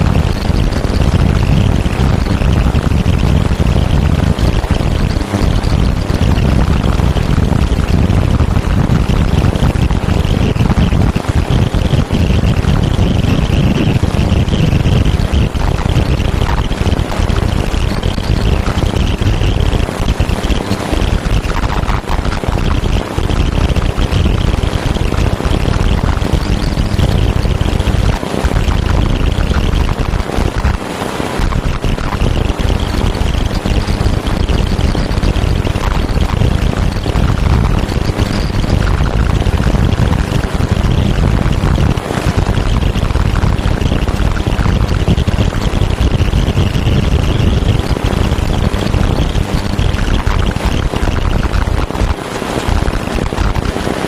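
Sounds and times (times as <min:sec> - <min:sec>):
dense rumbling noise with crackle: 0:00.0 - 0:54.0.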